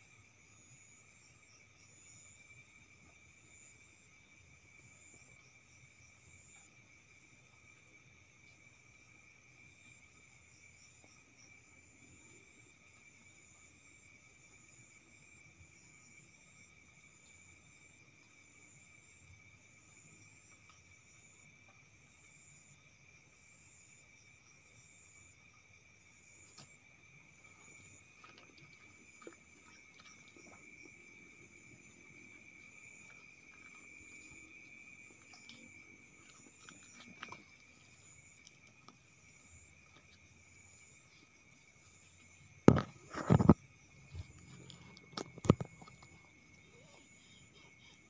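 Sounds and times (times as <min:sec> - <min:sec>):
crickets chirring: 0:00.0 - 0:48.0
night insects trilling: 0:00.0 - 0:48.0.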